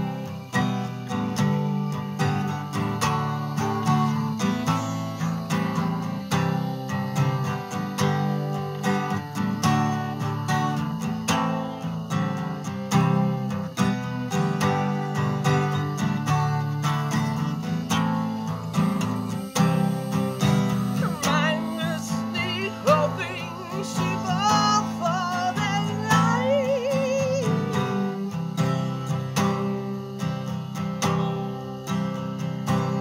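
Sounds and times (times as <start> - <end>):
acoustic guitar strumming: 0.0 - 33.0
lead guitar melody with slides: 0.0 - 33.0.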